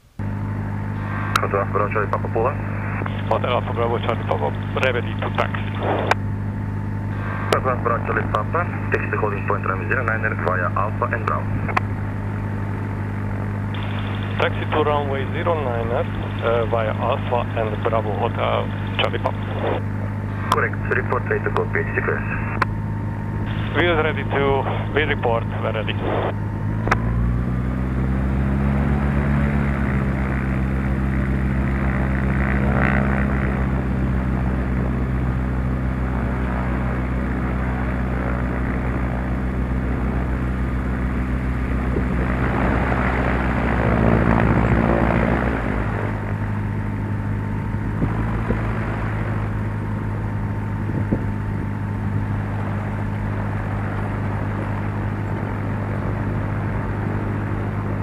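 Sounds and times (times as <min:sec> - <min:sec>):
light aircraft engine and propeller: 0:00.0 - 0:58.0.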